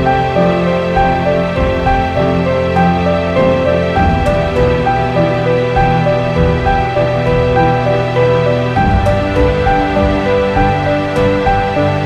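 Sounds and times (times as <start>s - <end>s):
slow gentle background music: 0.0s - 12.0s.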